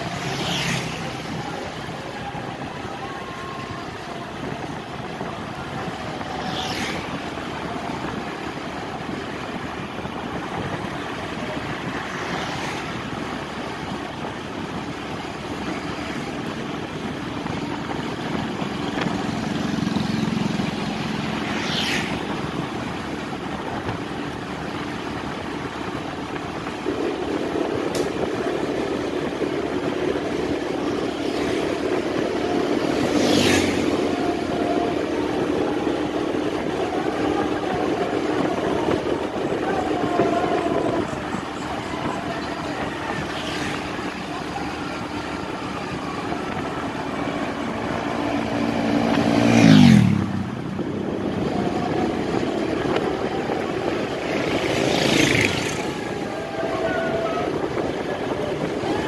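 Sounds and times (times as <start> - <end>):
vehicle road and engine noise: 0.0 - 59.0.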